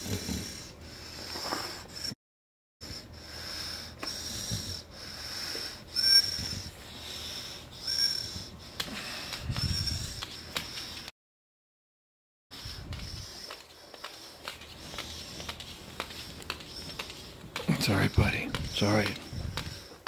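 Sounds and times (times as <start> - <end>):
dog wheezy breathing: 0.0 - 2.2, 2.8 - 11.1, 12.5 - 20.0.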